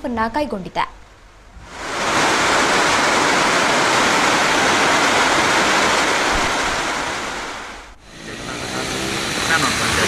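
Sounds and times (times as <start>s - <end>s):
heavy rain pouring: 1.6s - 10.0s.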